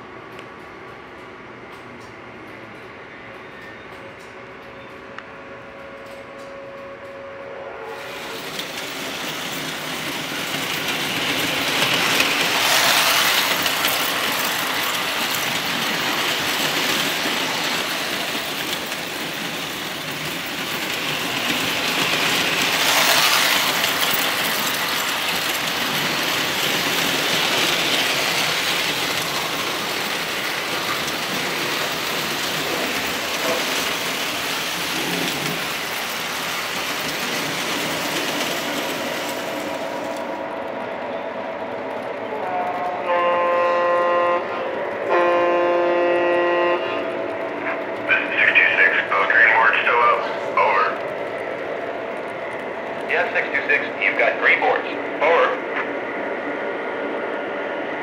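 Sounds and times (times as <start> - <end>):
toy train wheels rumbling on rails: 8.0 - 40.8, 41.5 - 55.4.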